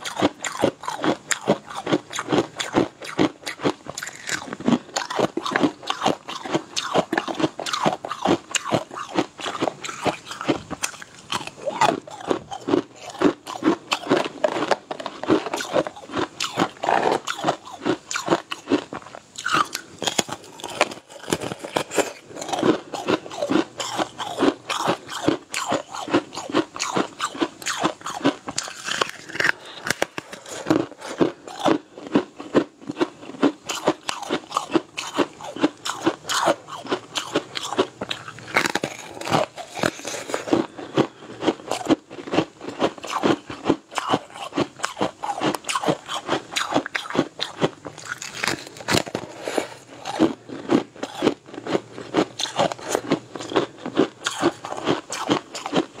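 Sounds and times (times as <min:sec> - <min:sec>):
person crunching pastry: 0:00.0 - 0:56.0.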